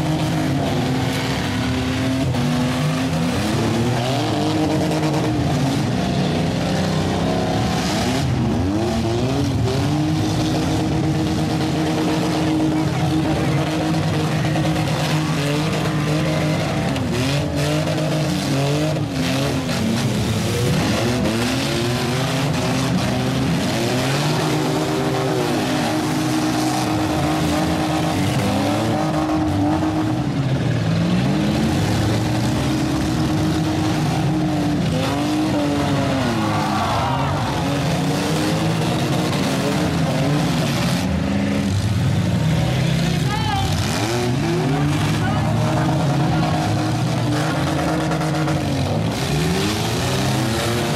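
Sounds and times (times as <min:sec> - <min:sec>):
engines revving: 0:00.0 - 0:50.9.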